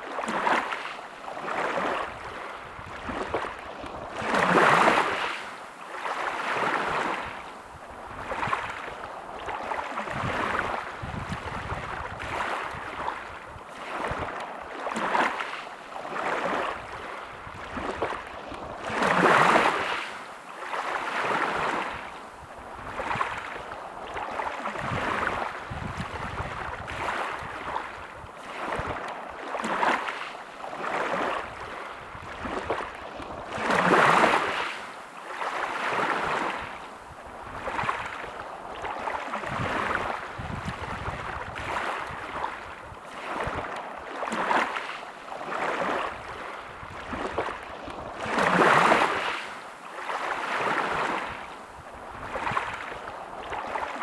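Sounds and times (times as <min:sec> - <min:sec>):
small sea waves washing in: 0:00.0 - 0:54.0.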